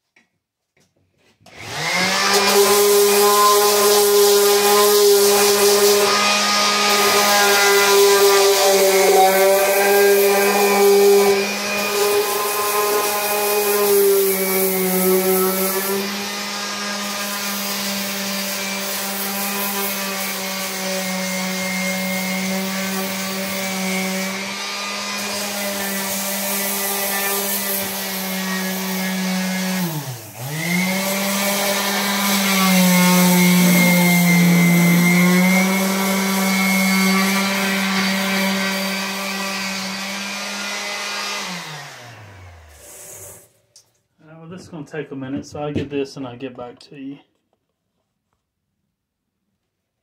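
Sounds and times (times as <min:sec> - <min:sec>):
electric power sander whining: 0:01.5 - 0:43.4.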